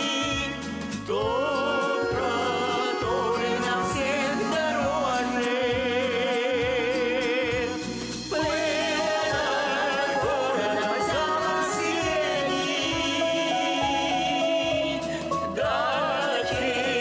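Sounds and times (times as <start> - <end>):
folk song singing: 0.0 - 17.0
instrumental accompaniment with beat: 0.0 - 17.0.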